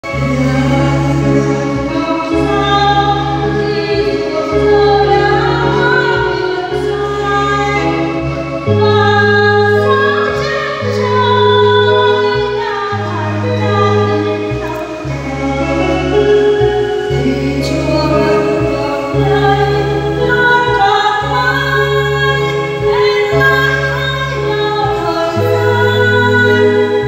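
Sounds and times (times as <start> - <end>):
accompaniment with held chords: 0.0 - 27.0.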